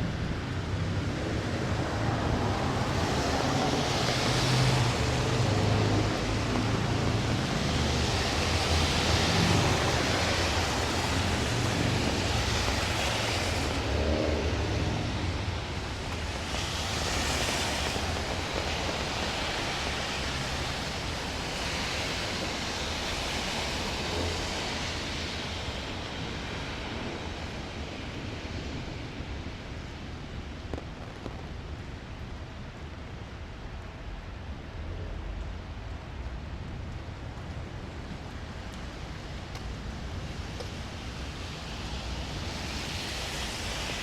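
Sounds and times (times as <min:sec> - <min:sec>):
rain falling on street: 0:00.0 - 0:44.0.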